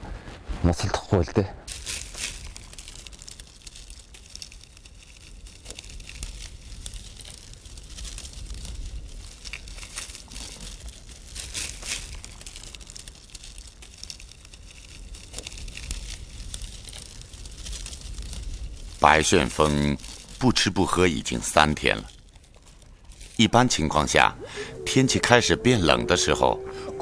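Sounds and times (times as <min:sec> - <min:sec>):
grass stalks rustling and snapping: 0:01.7 - 0:27.0
steady low rumble: 0:02.4 - 0:27.0.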